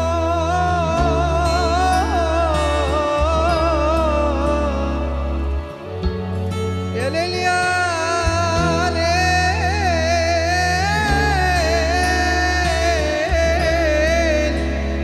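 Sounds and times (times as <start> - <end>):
ornamented melody line: 0.0 - 15.0
steady bass notes: 0.0 - 15.0.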